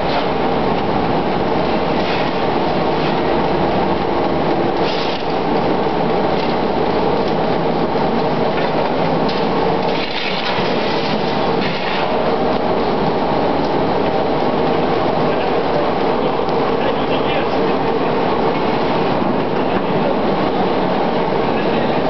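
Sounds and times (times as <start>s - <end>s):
presses running steadily: 0.0s - 22.0s.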